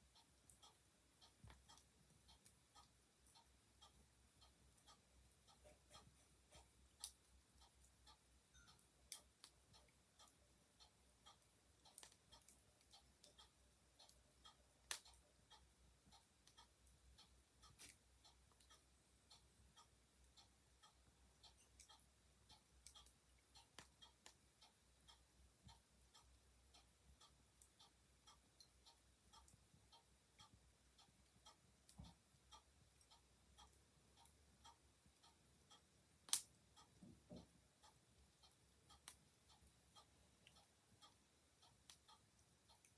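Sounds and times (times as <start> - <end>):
clock ticking: 0.0 - 42.9.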